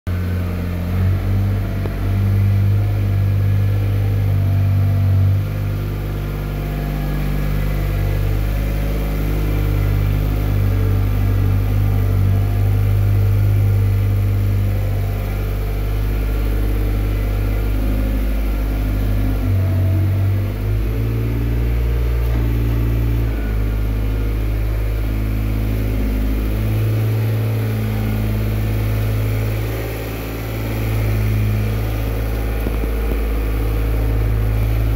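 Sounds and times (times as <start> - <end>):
tractor engine running under load: 0.1 - 34.9.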